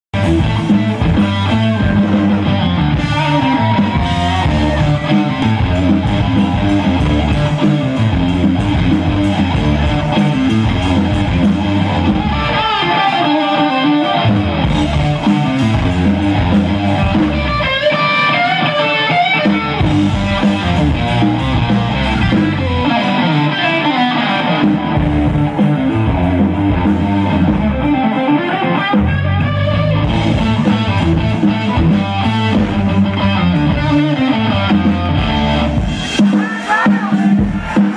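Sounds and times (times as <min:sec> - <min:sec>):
bass guitar: 0:00.0 - 0:37.9
electric guitar: 0:00.1 - 0:37.9
drum kit: 0:00.2 - 0:37.9.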